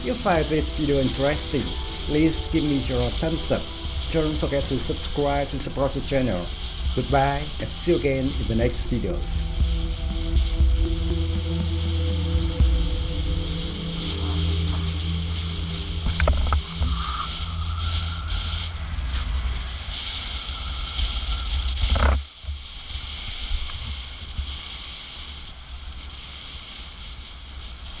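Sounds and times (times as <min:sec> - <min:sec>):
low mechanical rumble: 0:00.0 - 0:24.4
hiss: 0:00.0 - 0:28.0.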